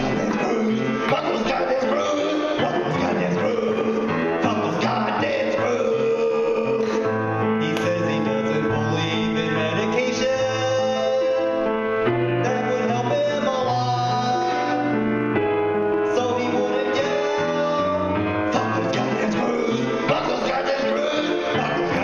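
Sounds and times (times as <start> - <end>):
man singing: 0.0 - 15.4, 16.0 - 22.0
grand piano chords: 0.0 - 22.0.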